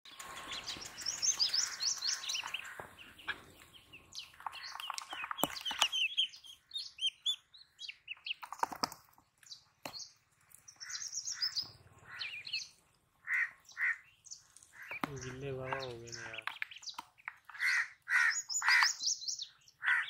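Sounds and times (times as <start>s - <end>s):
ducklings peeping: 0.1s - 20.0s.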